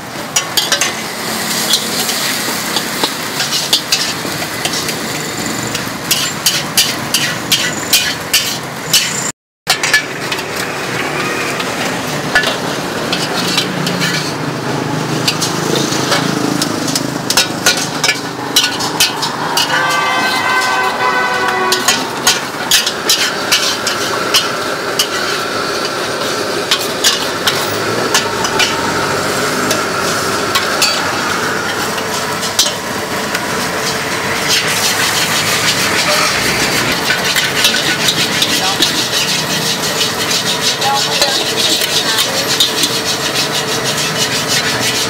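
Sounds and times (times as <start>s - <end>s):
food sizzling: 0.0s - 45.0s
metal ladle scraping a wok: 0.1s - 45.0s.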